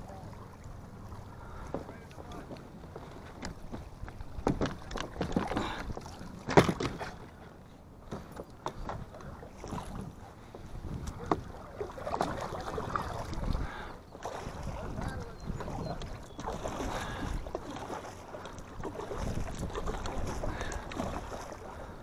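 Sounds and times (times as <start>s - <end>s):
paddle splashes and drips: 0.0s - 22.0s.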